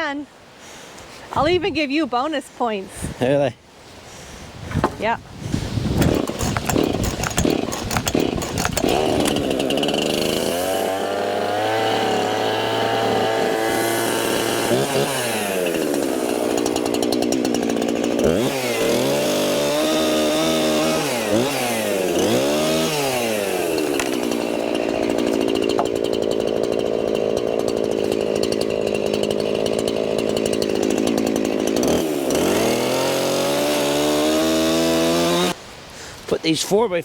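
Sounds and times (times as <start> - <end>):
chainsaw revving: 5.9 - 35.6.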